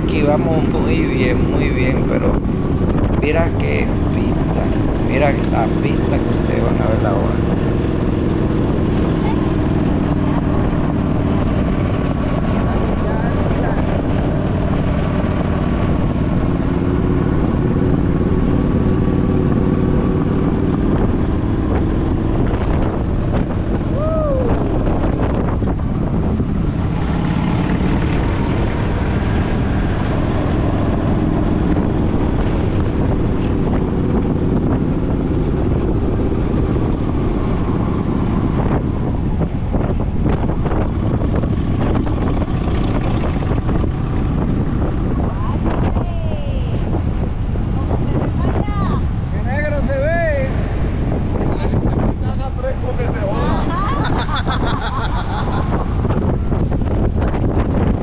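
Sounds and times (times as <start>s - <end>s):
motorcycle engine running: 0.0s - 49.7s
wind rush on microphone: 0.0s - 58.0s.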